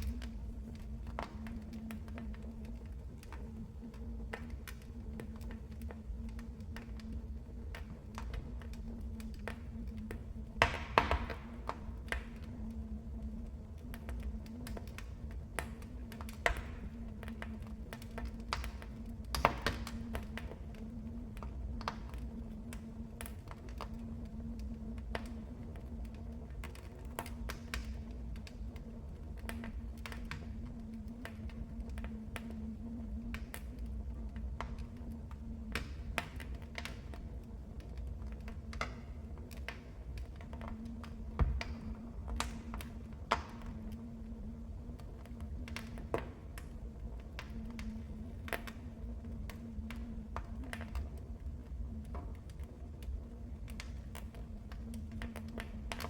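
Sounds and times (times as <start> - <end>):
fire popping and snapping: 0.0 - 56.0
low rumble of burning logs: 0.0 - 56.0
wood fire crackling: 0.0 - 56.0.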